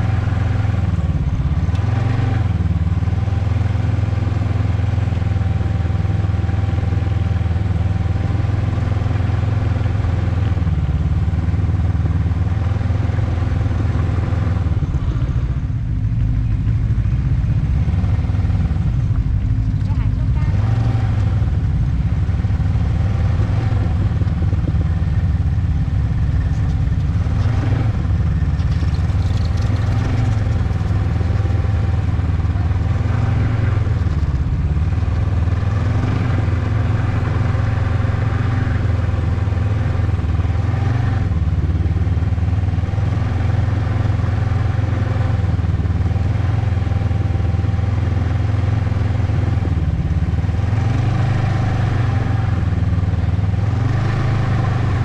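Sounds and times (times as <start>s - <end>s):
snowmobile engine drone: 0.0s - 55.0s.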